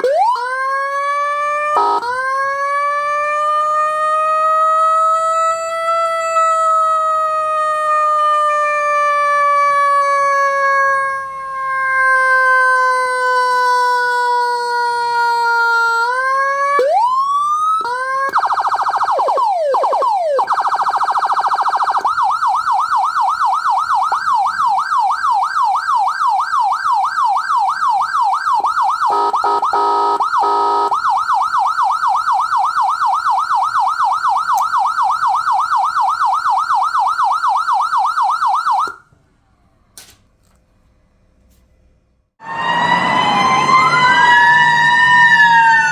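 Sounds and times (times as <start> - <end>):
electronic siren wailing and yelping: 0.0 - 39.0, 42.4 - 45.9.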